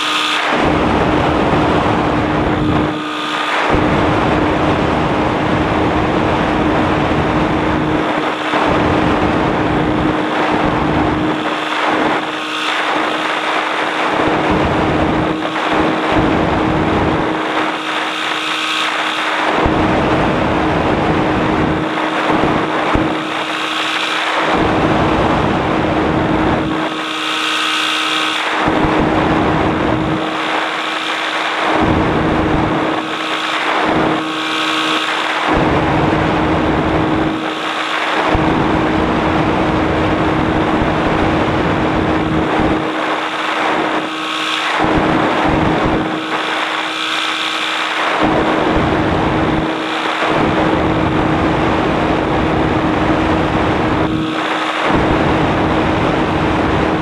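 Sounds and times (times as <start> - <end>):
light aircraft engine droning: 0.0 - 57.0
wind rushing over microphone: 0.0 - 57.0.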